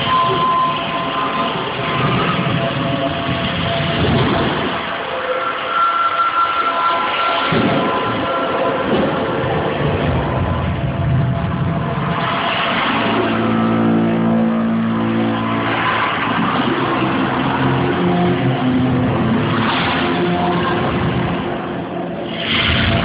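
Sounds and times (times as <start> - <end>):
droning electronic tones: 0.0 - 23.0
electronic whooshes: 0.0 - 23.0.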